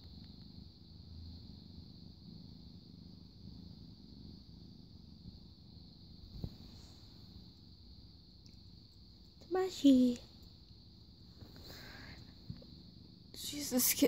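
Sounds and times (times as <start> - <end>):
kitten purring: 0.0 - 14.0.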